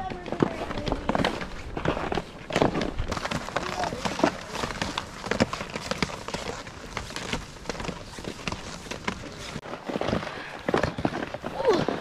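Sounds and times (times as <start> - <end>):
ski poles crunching and clicking: 0.0 - 12.0
skis shuffling over snow: 0.0 - 12.0.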